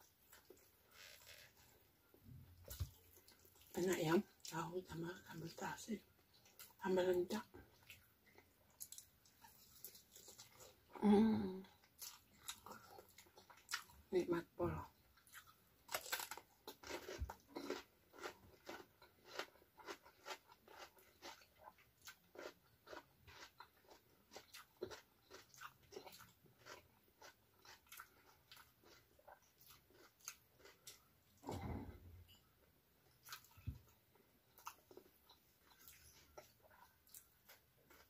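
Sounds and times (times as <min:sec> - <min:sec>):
person chewing food: 0:00.0 - 0:04.5, 0:06.1 - 0:06.8, 0:07.6 - 0:11.0, 0:11.7 - 0:14.1, 0:15.0 - 0:38.0.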